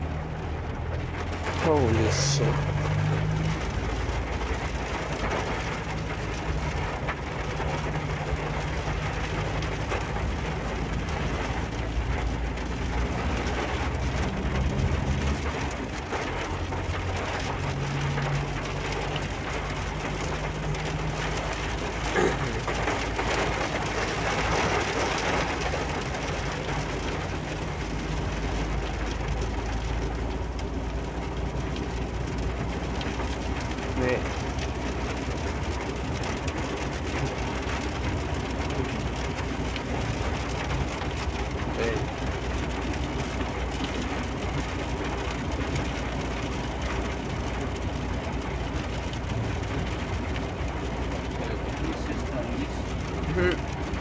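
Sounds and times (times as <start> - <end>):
engine and road hum: 0.0 - 54.0
rain pelting car roof: 0.0 - 54.0.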